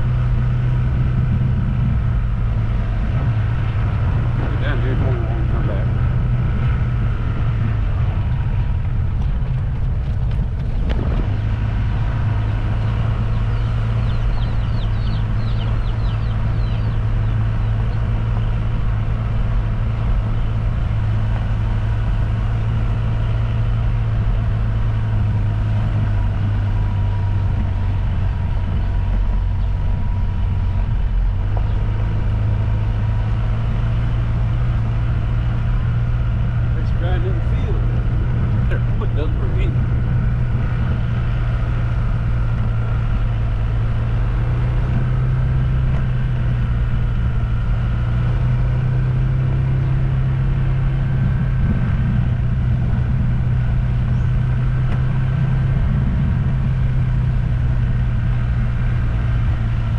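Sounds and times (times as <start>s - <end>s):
road noise: 0.0s - 59.9s
vehicle engine drone: 0.0s - 59.9s.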